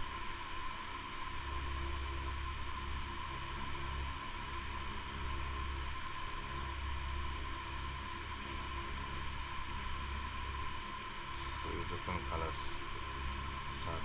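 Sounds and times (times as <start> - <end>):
electric fan running: 0.0 - 14.0
faint steady whine: 0.0 - 14.0.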